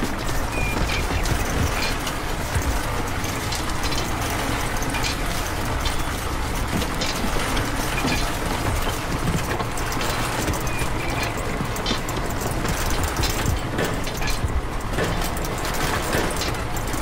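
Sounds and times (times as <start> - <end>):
miniature conveyor belt motor: 0.0 - 17.0.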